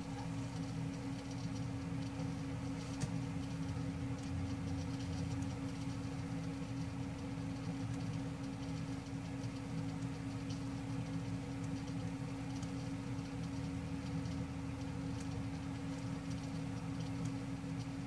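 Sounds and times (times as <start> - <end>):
faint scattered ticks: 0.0 - 18.0
steady low hum: 0.0 - 18.0.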